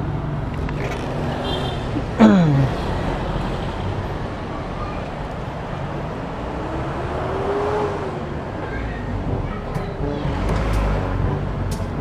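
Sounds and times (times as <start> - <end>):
traffic rumble and hiss: 0.0 - 12.0.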